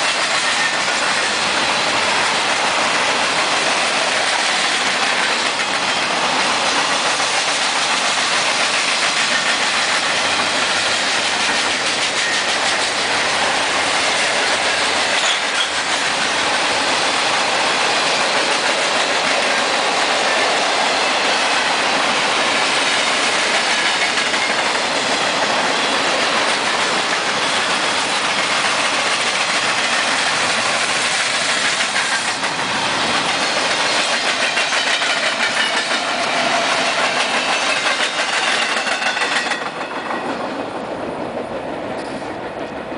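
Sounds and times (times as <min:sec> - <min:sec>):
freight train rolling on rails: 0:00.0 - 0:42.9.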